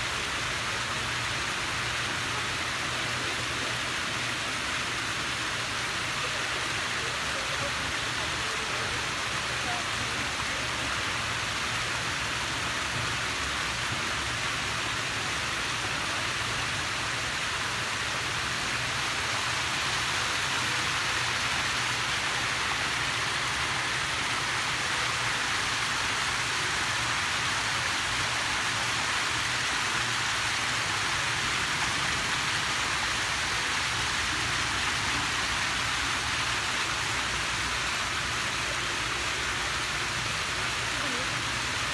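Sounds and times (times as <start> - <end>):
waterfall splashing over rocks: 0.0 - 41.9.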